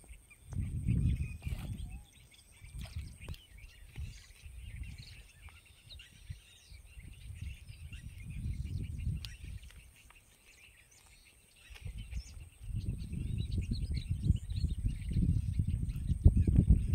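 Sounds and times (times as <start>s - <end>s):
birds chirping and calling: 0.0s - 16.9s.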